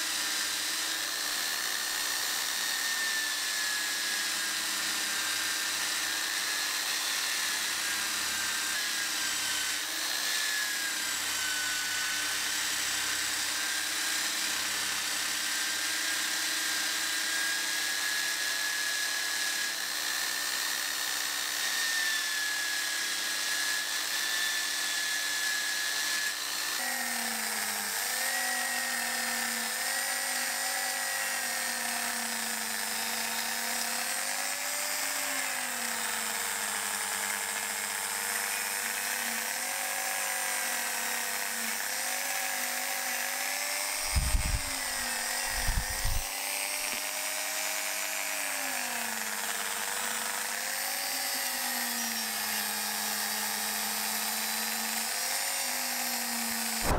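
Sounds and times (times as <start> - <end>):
drill press motor whine: 0.0 - 56.9
rotary tool polishing whine: 0.0 - 56.9.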